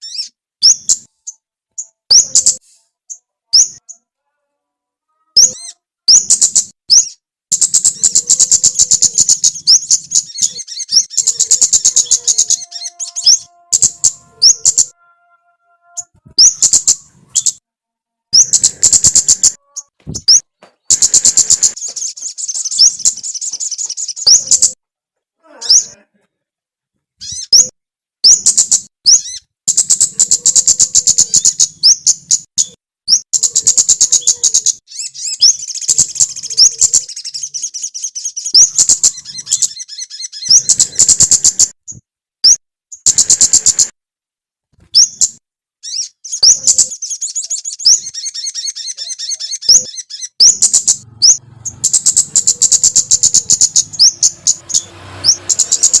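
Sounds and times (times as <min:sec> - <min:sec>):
songbird chattering trills: 0:00.0 - 0:02.6, 0:05.4 - 0:15.0, 0:15.9 - 0:17.6, 0:18.4 - 0:24.8, 0:27.2 - 0:41.7, 0:43.0 - 0:43.9, 0:45.0 - 0:56.0.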